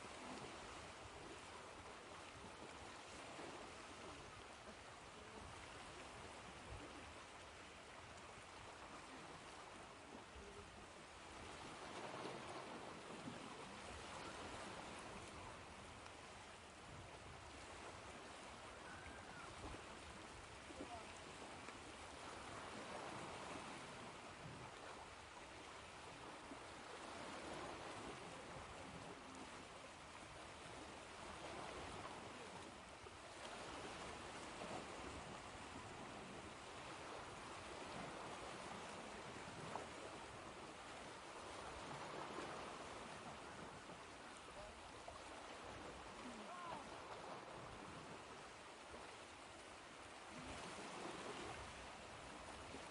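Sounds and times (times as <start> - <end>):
ocean waves washing ashore: 0.0 - 52.9.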